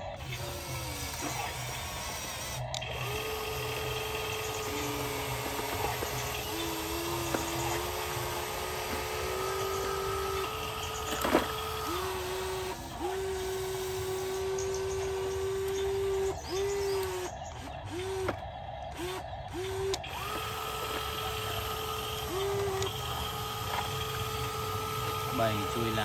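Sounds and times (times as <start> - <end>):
toy electric motors whining: 0.0 - 26.0.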